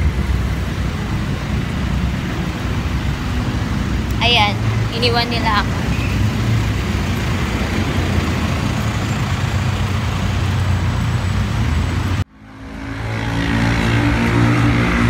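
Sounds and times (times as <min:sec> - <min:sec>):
road traffic noise: 0:00.0 - 0:15.0
vehicle engines running: 0:00.0 - 0:15.0.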